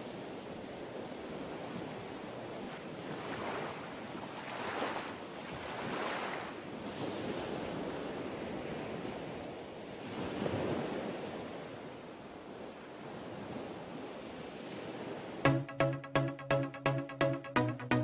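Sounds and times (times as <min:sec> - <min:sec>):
ocean waves washing on shore: 0:00.0 - 0:17.4.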